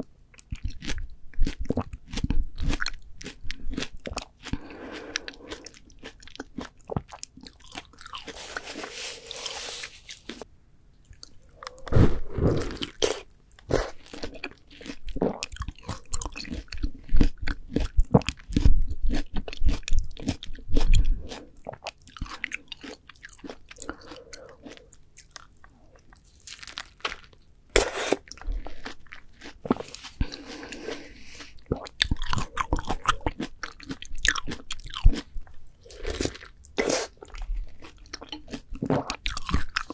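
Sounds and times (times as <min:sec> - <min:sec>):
biting and chewing melon: 0:00.0 - 0:10.5, 0:11.2 - 0:39.9.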